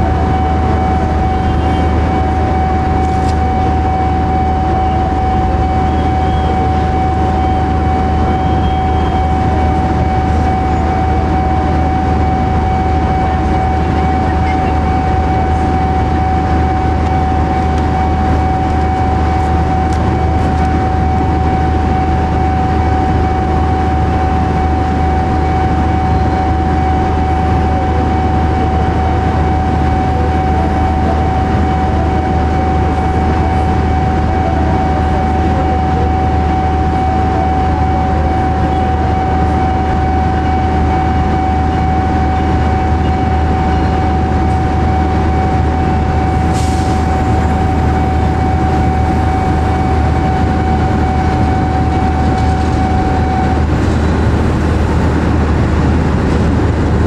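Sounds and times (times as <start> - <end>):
high whine: 0.0 - 57.0
locomotive engine drone: 0.0 - 57.0.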